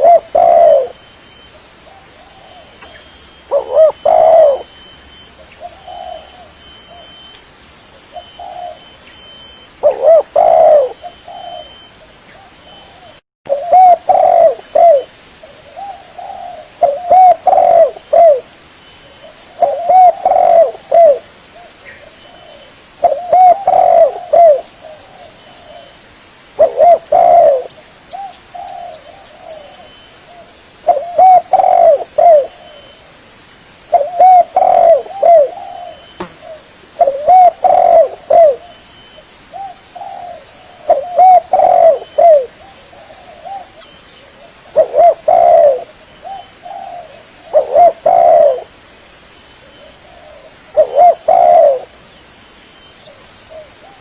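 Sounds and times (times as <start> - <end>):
dove cooing: 0.0 - 1.1, 1.8 - 7.2, 8.1 - 18.5, 19.1 - 26.0, 26.6 - 33.0, 33.9 - 48.8, 49.7 - 52.0.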